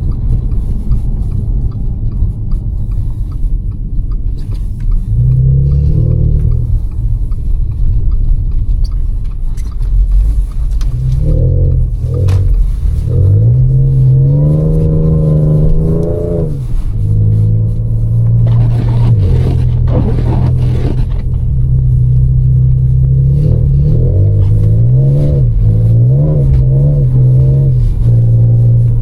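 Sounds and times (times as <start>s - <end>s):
car engine accelerating: 0.0s - 29.0s
tyre and road rumble: 0.0s - 29.0s.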